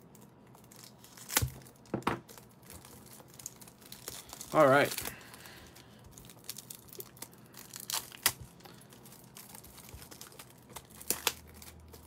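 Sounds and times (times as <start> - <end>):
plastic wrap tearing and crinkling: 0.0 - 12.0.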